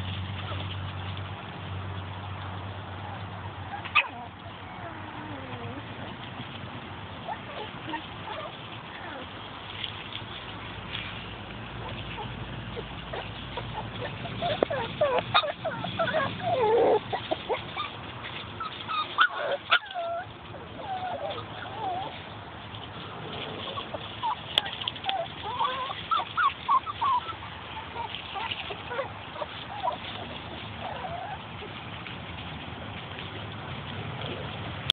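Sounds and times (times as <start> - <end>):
puppies squeaking and yipping: 0.0 - 1.2, 1.8 - 33.4
paws rustling dry leaves: 0.0 - 34.9.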